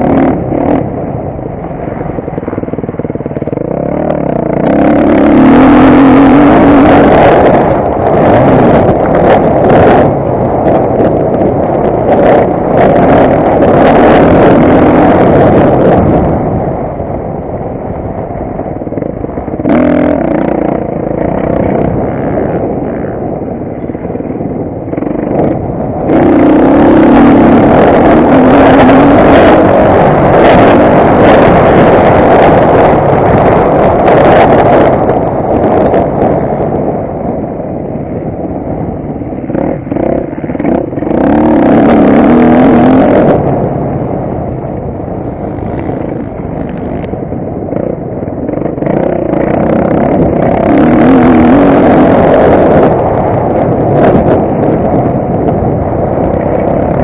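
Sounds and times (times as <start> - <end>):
motocross bike engine revving: 0.0 - 16.6, 18.7 - 36.9, 38.4 - 44.1, 44.8 - 57.0.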